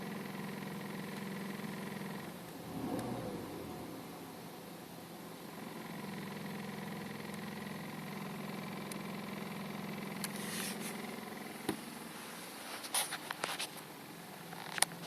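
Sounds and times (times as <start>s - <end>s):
car engine low drone: 0.0s - 12.7s, 13.3s - 15.0s.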